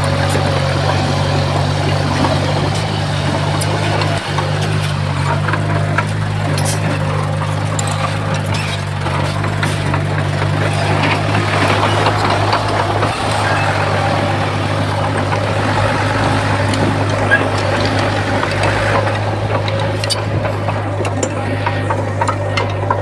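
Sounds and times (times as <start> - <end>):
diesel machinery engine drone: 0.0 - 23.0.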